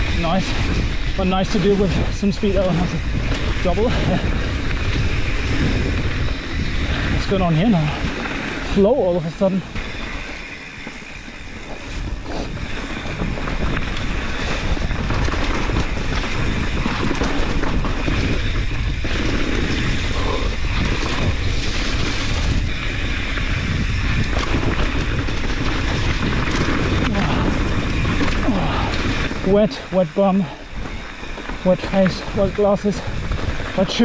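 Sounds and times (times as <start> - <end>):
bike rattling and clicking: 0.0 - 34.0
bike tyres rolling on wet trail: 0.0 - 34.0
wind buffeting microphone: 0.0 - 34.0.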